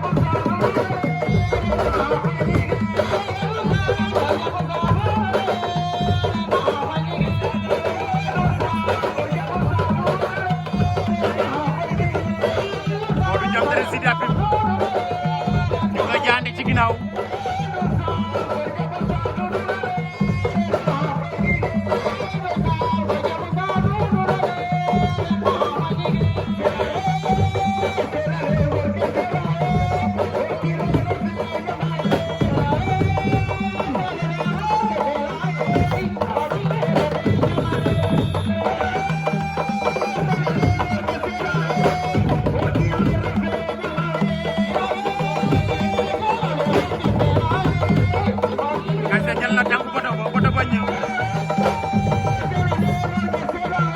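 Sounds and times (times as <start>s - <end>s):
drum rhythm: 0.0s - 53.9s.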